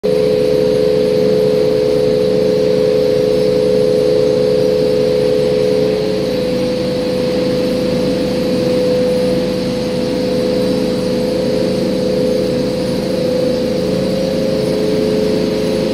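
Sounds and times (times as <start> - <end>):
motor humming steadily: 0.0 - 15.9.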